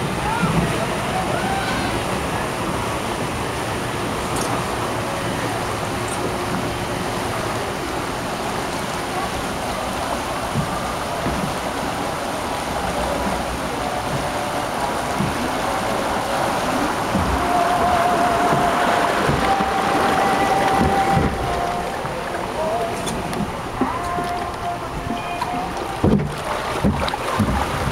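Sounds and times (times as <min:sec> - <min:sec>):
water rushing down flume channel: 0:00.0 - 0:27.9.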